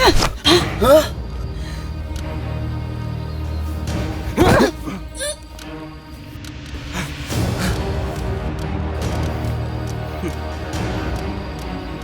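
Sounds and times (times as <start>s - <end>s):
dark background music: 0.0s - 12.0s.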